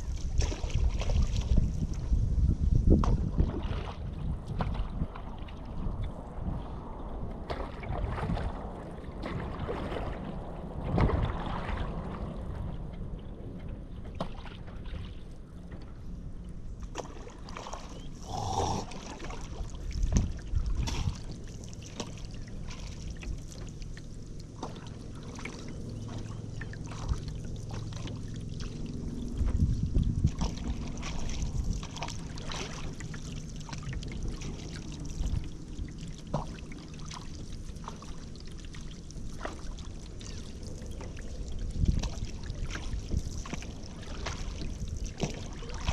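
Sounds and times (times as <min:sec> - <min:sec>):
paddle strokes in water: 0:00.0 - 0:45.9.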